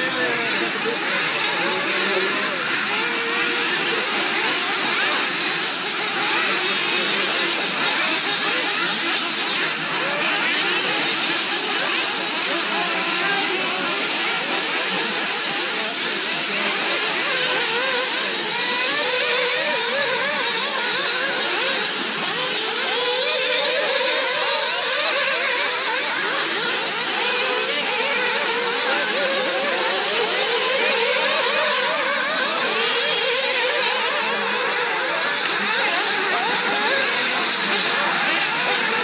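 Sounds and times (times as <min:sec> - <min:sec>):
model car engines revving: 0:00.0 - 0:39.0.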